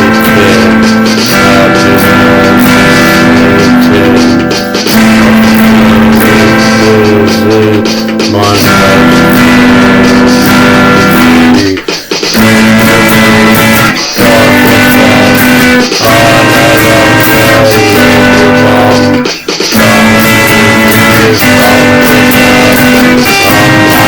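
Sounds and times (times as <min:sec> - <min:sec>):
guitar instrumental music: 0:00.0 - 0:24.0.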